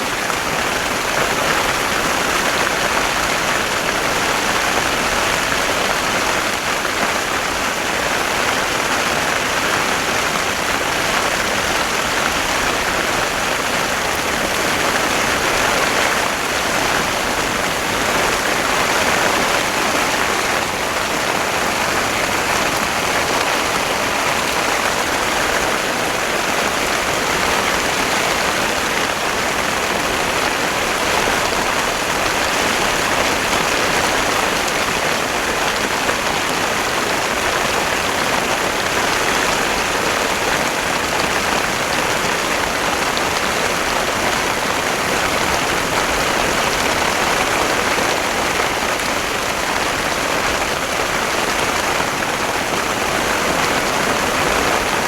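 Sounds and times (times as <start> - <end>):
torrential rain: 0.0 - 55.0.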